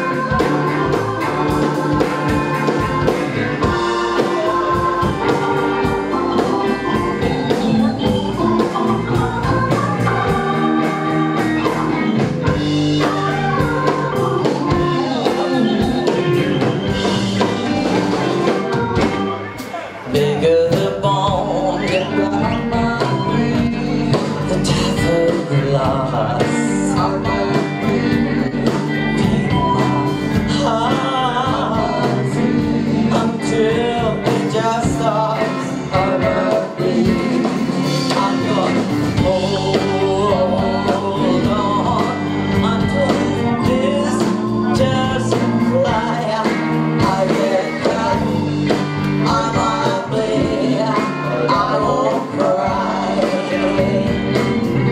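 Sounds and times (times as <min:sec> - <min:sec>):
woman singing: 0:00.0 - 0:19.5, 0:20.1 - 0:54.9
rock band playing: 0:00.0 - 0:54.9.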